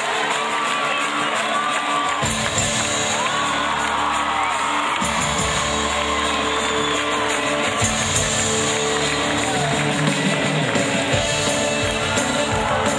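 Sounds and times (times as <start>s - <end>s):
crowd cheering and whooping: 0.0s - 12.9s
live band music: 0.0s - 12.9s.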